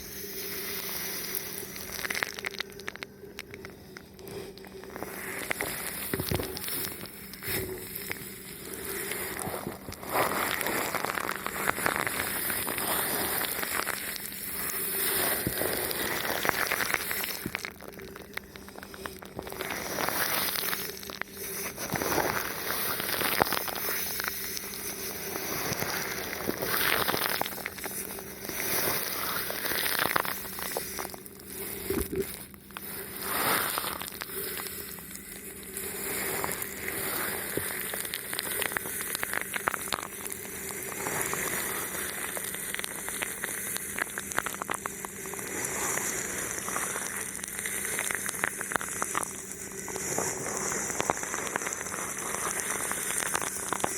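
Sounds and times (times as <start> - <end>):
plastic film crinkling on microphone: 0.0 - 53.9.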